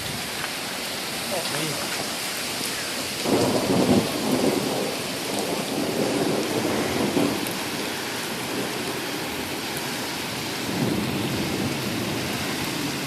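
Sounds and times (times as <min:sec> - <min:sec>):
flood water rushing: 0:00.0 - 0:13.0.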